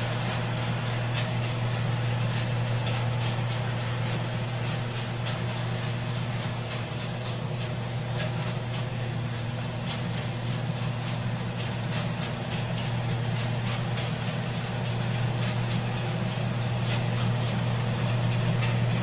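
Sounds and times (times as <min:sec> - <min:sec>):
machine engine hum: 0:00.0 - 0:19.0
regular machine clatter: 0:00.0 - 0:19.0.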